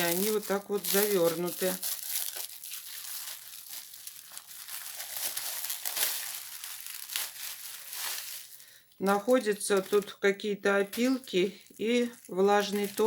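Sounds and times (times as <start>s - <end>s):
packaging crinkling and rustling: 0.0s - 10.2s, 10.8s - 13.0s.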